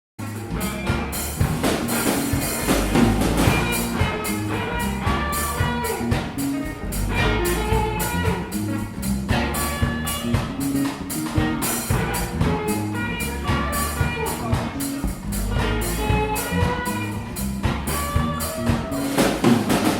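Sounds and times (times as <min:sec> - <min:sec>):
drum kit beat: 0:00.2 - 0:19.9
small band playing live: 0:00.2 - 0:19.9.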